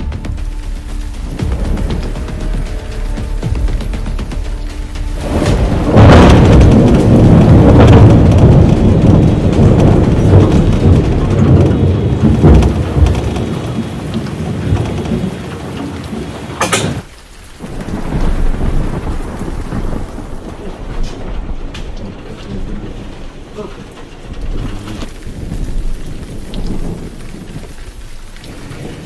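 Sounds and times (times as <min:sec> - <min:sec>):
loud thunder rumbling: 0:00.0 - 0:29.0
rain on wet pavement: 0:00.0 - 0:29.0.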